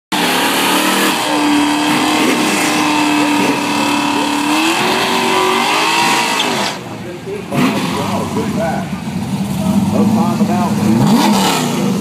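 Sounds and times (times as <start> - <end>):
engine at high revs: 0.1 - 12.0.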